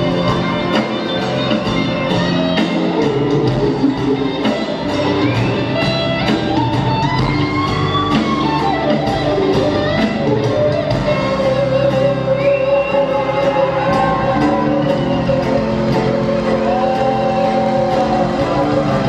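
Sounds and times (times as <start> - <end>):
electric guitar solo: 0.0 - 19.0
steady drum beat: 0.0 - 19.0.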